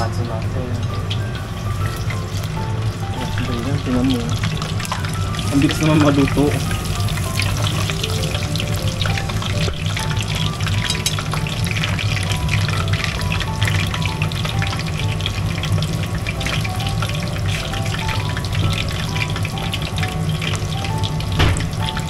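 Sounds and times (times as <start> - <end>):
cutlets deep-frying in oil: 0.0 - 22.0.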